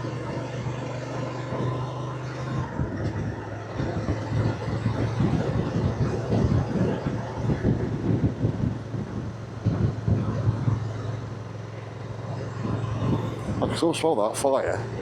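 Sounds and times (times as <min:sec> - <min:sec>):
motorcycle engine humming: 0:00.0 - 0:15.0
rough wind noise: 0:00.0 - 0:15.0.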